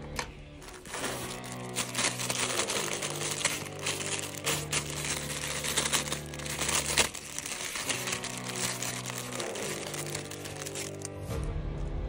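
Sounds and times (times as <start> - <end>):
background music with low chords: 0.0 - 12.0
plastic packaging crinkling: 0.5 - 11.2.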